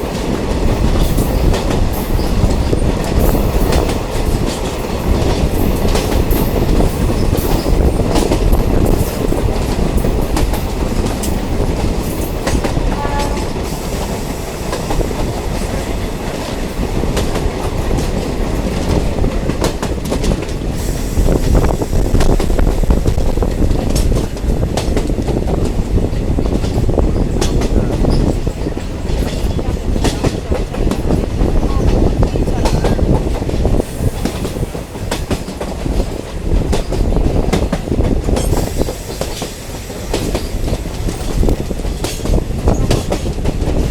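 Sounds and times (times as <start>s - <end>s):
train rumbling along track: 0.0s - 43.9s.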